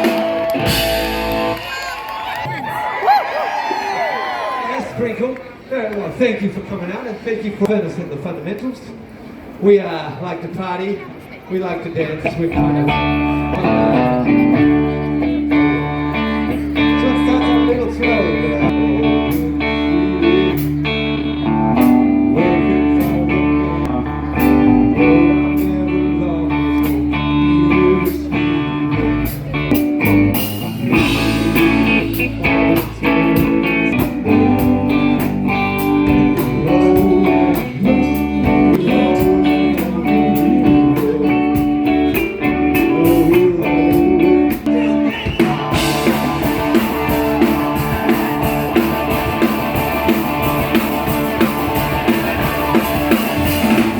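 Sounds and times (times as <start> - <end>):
lead guitar: 0.0 - 2.4, 12.2 - 53.9
live blues band playing: 0.0 - 2.4, 12.2 - 53.9.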